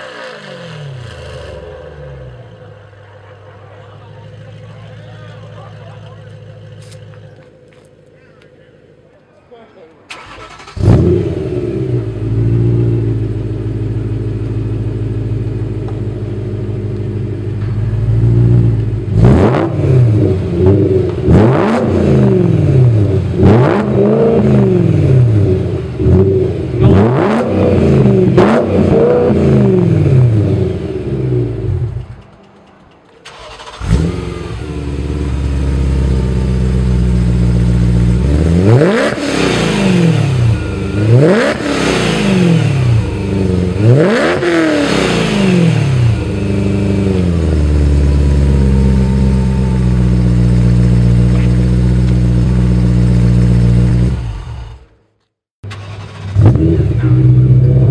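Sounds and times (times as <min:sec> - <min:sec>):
car engine idling and revving: 0:00.0 - 0:09.2, 0:10.1 - 0:57.9.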